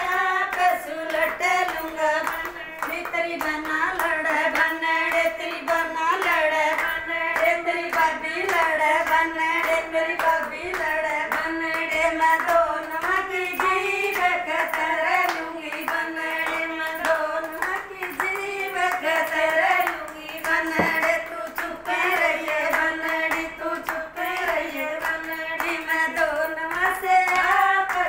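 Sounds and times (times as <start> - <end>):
rhythmic hand clapping: 0.0 - 28.0
women singing folk song: 0.0 - 28.0.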